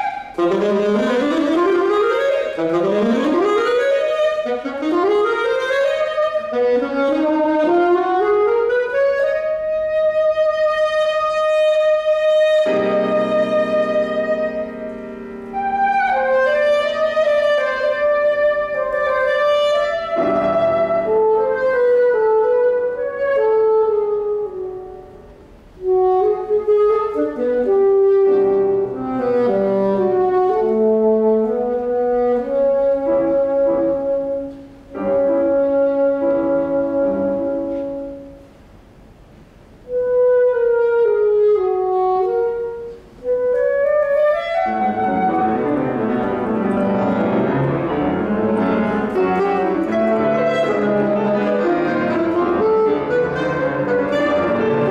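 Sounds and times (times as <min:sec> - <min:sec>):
classical saxophone: 0:00.0 - 0:54.9
piano chords: 0:00.0 - 0:54.9.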